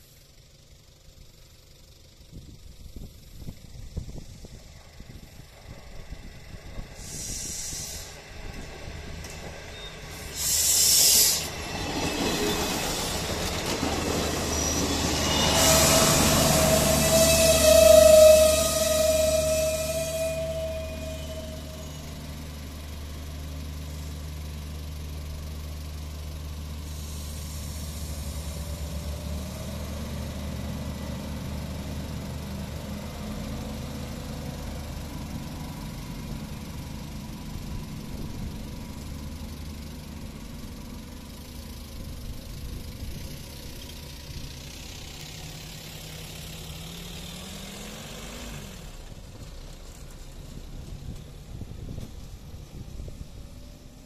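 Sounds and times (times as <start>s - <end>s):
diesel railcar engine: 0.0s - 54.0s.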